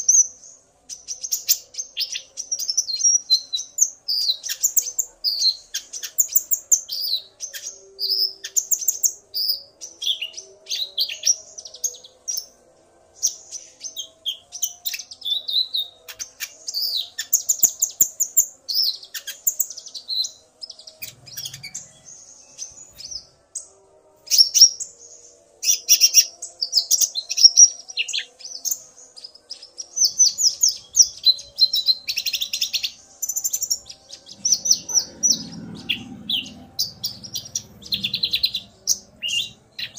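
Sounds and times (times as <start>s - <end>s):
birds twittering and trilling: 0.0s - 39.9s.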